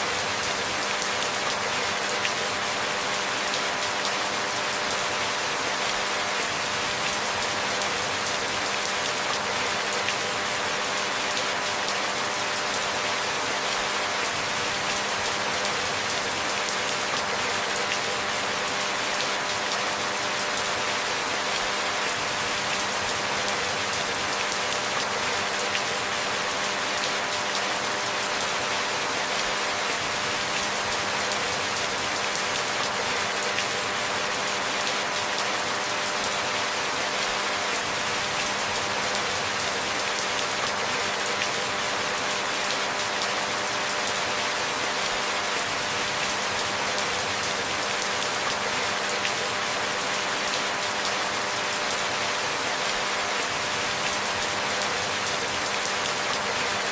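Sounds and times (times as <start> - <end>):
steady rainfall hiss: 0.0 - 56.9.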